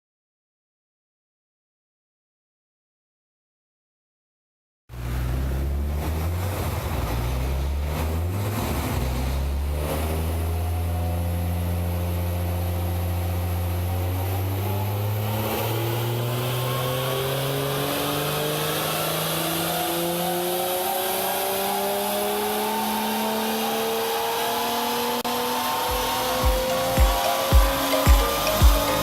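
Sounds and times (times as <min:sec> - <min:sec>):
car engine running: 0:04.9 - 0:29.0.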